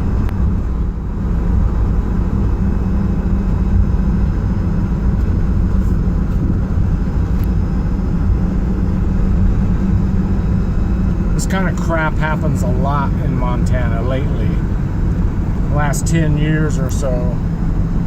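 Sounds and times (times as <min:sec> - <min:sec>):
van engine and road noise: 0:00.0 - 0:18.0.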